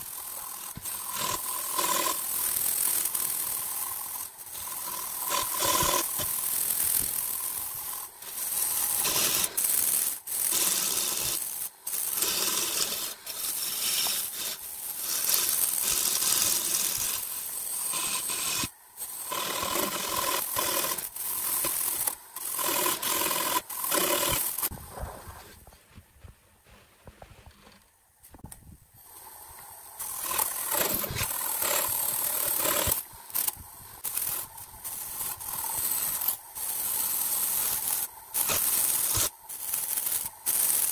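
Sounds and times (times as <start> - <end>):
wood being shaved on lathe: 0.0 - 25.2, 30.0 - 40.9.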